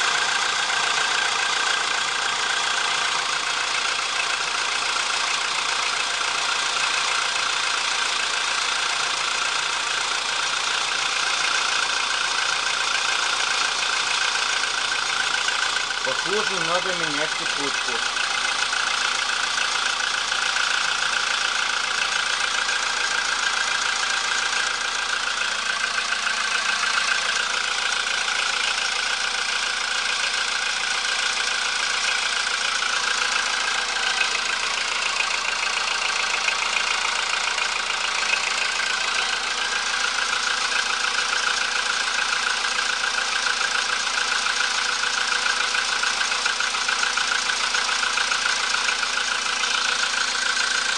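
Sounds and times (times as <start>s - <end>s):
car engine idling: 0.0s - 50.9s
light engine rattle: 0.0s - 50.9s.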